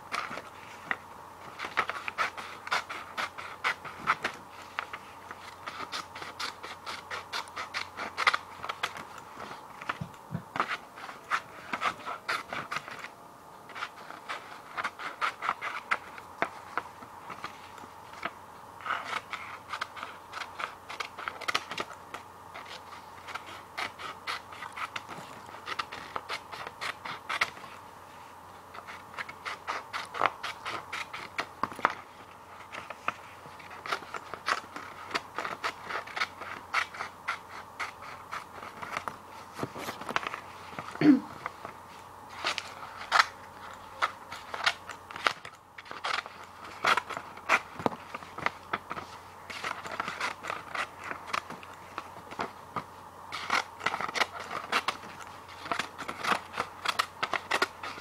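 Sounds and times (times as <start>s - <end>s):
scissors cutting paper: 0.1s - 13.1s, 13.7s - 27.8s, 28.7s - 58.0s.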